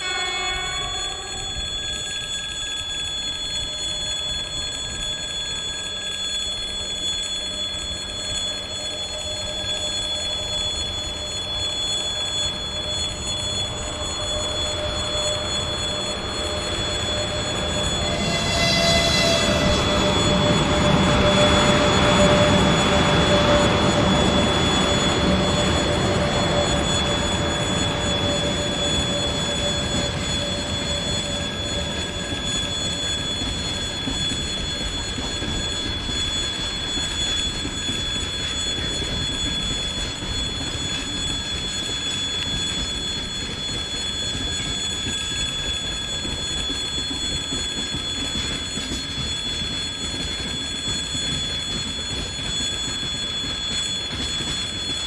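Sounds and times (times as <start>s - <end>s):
freight train wheels rumbling: 0.0s - 55.0s
high-pitched ringing tones: 0.0s - 55.0s.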